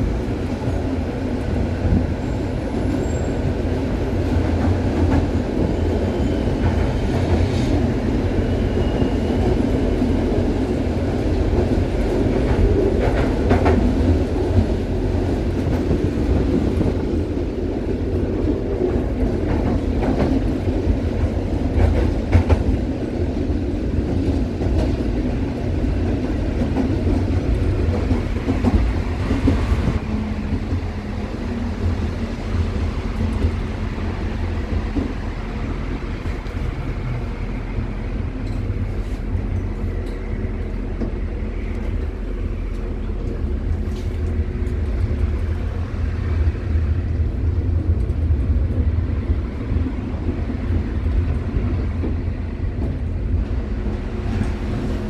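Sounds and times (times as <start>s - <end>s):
tram wheels rumbling: 0.0s - 55.0s.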